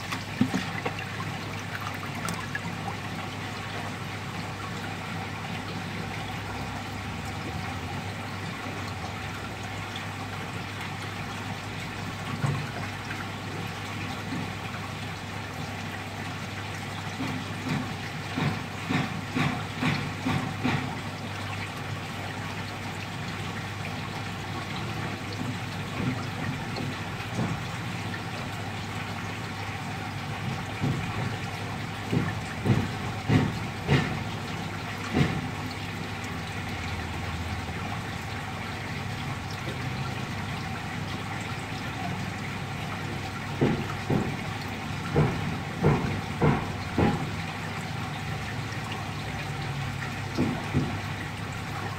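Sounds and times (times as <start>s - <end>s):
running water: 0.0s - 51.9s
water pump humming: 0.0s - 51.9s.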